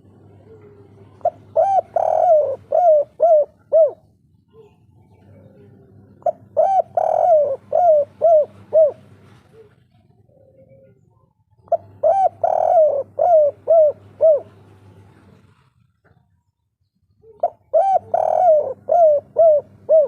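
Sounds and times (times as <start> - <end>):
dove cooing: 0.0 - 16.2, 17.2 - 20.0.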